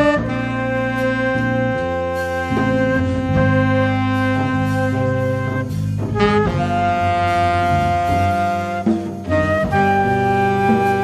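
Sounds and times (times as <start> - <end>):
drums: 0.0 - 11.0
electric bass: 0.0 - 11.0
flute: 0.0 - 11.0
saxophone: 0.0 - 11.0.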